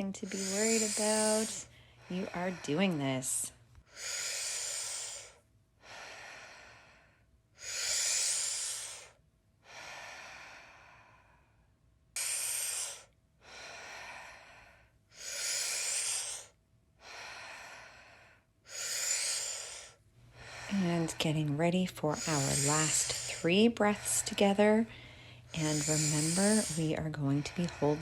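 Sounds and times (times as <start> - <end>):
deep breaths in and out: 0.0 - 28.0.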